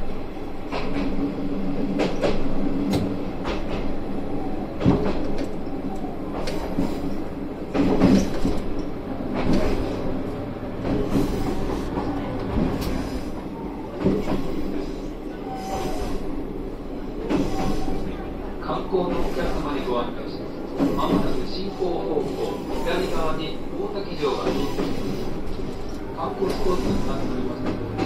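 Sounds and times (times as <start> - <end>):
railcar engine drone: 0.0 - 28.0.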